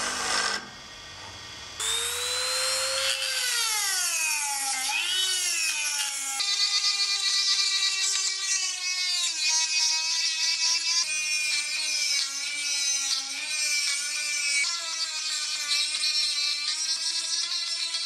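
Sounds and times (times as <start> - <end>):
rotary tool grinding metal: 0.0 - 0.8, 1.8 - 18.0.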